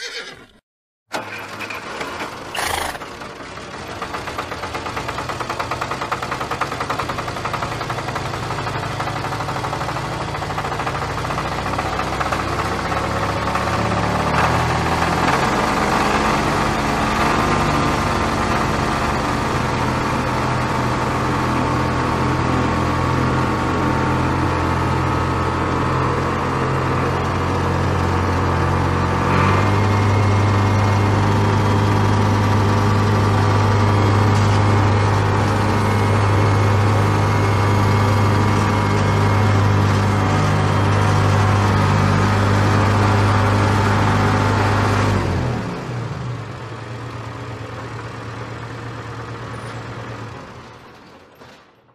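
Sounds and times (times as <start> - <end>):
tractor engine running: 0.0 - 51.8.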